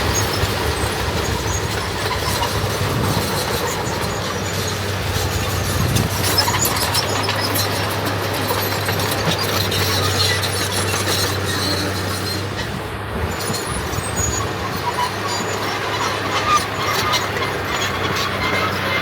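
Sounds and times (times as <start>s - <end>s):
diesel engine running: 0.0s - 19.0s
short metallic squeaks: 0.1s - 19.0s.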